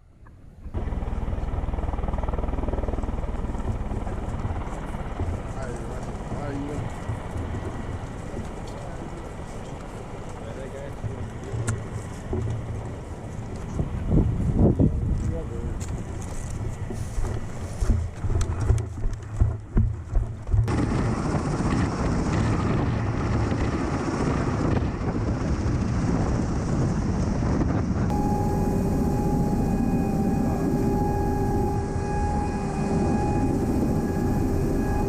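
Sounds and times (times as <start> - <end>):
engine whine: 0.0 - 26.1, 27.4 - 35.0
aircraft engines and rotors roaring: 0.0 - 35.0.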